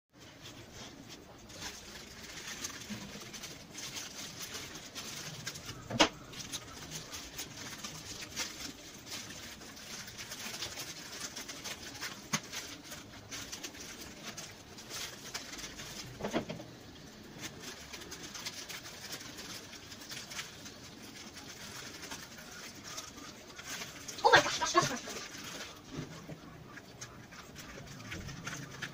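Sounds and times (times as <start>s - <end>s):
plastic mailer crinkling and tearing: 0.2s - 28.9s.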